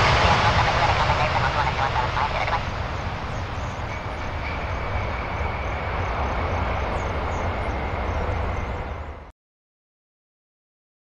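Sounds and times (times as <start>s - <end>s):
jet engines roaring: 0.0s - 9.3s.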